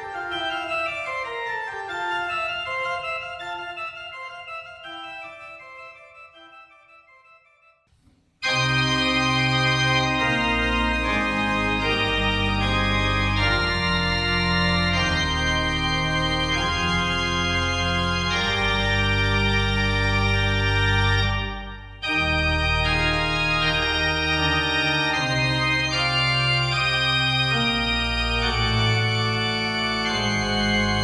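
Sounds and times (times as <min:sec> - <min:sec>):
church organ playing: 0:00.0 - 0:31.0.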